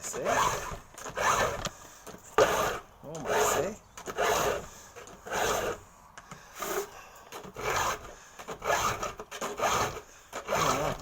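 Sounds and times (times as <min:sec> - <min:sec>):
file rasping on saw chain: 0:00.0 - 0:01.7, 0:02.3 - 0:05.8, 0:06.6 - 0:11.0.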